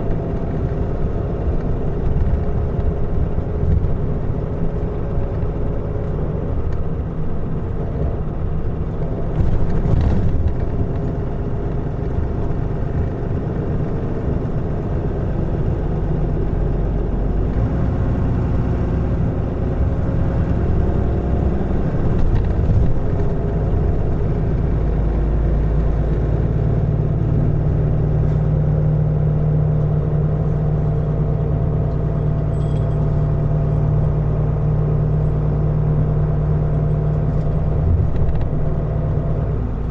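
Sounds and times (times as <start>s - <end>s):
bus diesel engine hum: 0.0s - 39.9s
road noise: 0.0s - 39.9s.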